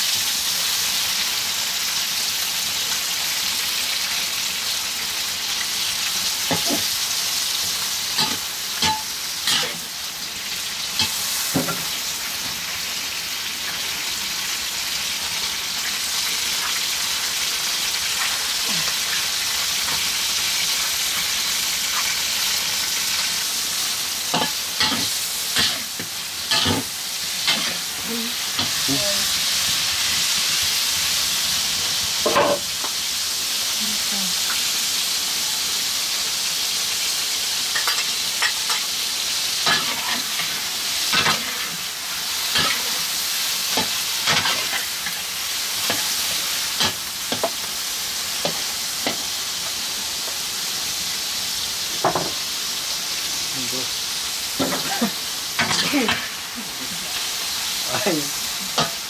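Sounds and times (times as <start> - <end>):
tomato slices sizzling in a wok: 0.0 - 59.0.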